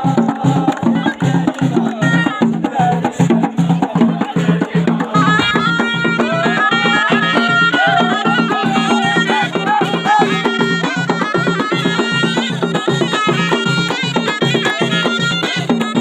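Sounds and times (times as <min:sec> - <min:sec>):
shawm playing ornamented melody: 0:00.0 - 0:16.0
steady drum beat: 0:00.0 - 0:16.0.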